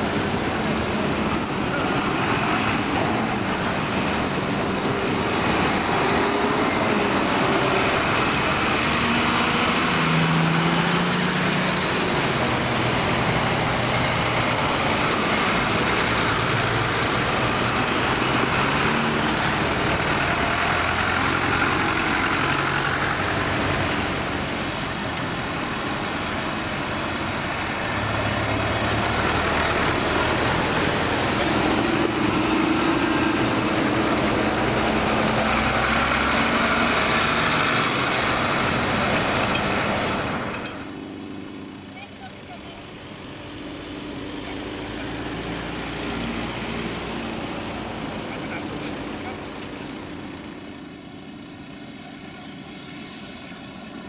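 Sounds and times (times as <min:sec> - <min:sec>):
diesel tractors driving past: 0:00.0 - 0:54.0.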